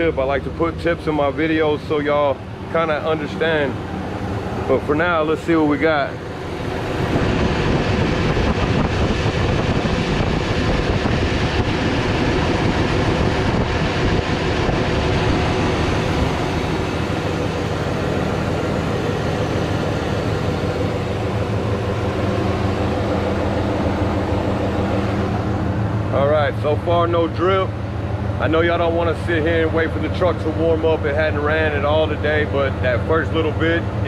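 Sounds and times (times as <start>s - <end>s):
car engine running: 0.0s - 34.0s
engine cooling fan: 0.0s - 34.0s.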